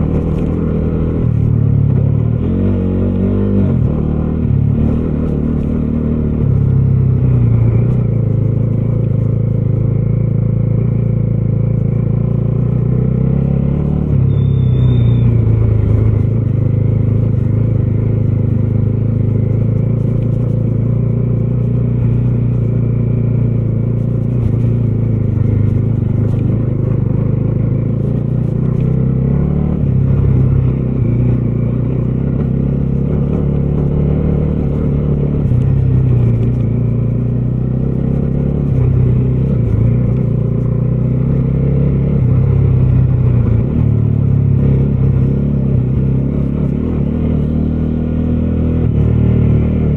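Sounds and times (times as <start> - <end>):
motorcycle engine riding: 0.0 - 49.9.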